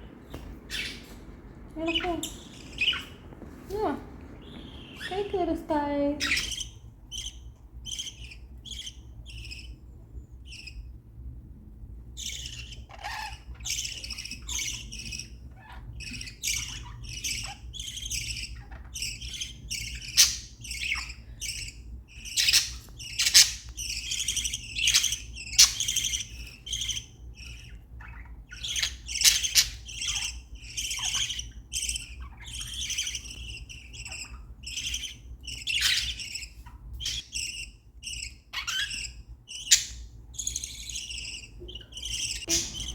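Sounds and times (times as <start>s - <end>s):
budgerigars chirping: 0.1s - 11.0s, 12.1s - 42.9s.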